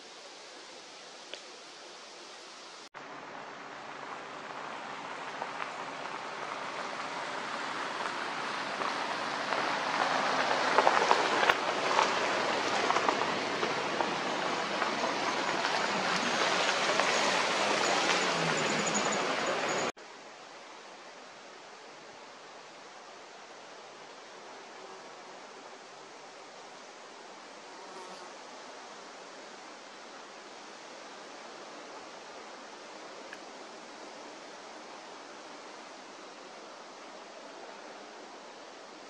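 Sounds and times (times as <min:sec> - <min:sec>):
leaves rustling: 0:00.0 - 0:39.0
wind through trees: 0:00.0 - 0:39.0.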